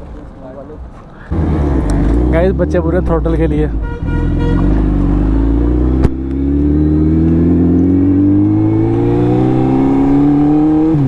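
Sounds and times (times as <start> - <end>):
motorcycle engine at full throttle: 1.3 - 11.0.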